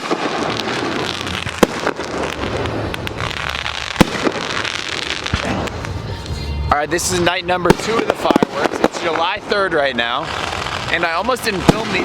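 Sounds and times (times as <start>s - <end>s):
firework bangs: 0.0s - 12.0s
firework crackling: 0.0s - 12.0s.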